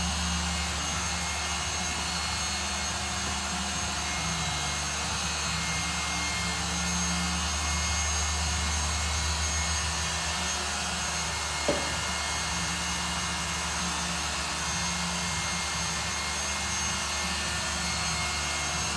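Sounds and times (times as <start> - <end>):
machine whirring: 0.0 - 18.9.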